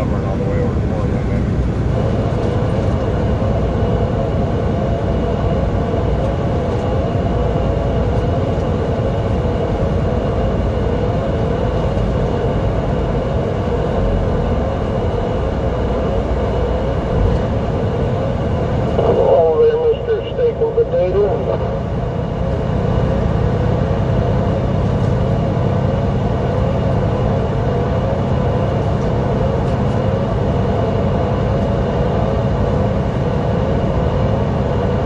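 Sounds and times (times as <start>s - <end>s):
vehicle engine drone: 0.0s - 35.0s.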